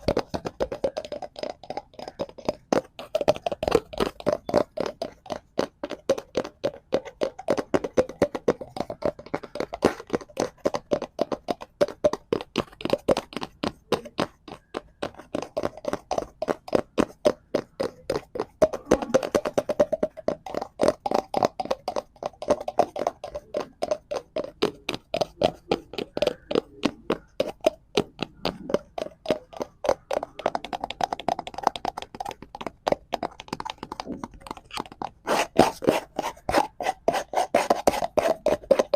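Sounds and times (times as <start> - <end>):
fingers tapping on cardboard: 0.0 - 38.9.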